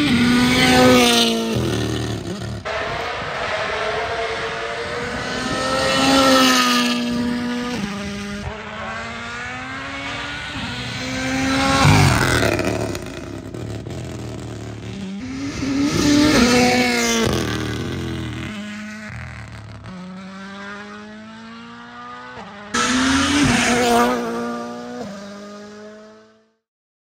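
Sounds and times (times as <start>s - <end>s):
rally car engine revving: 0.0s - 26.5s.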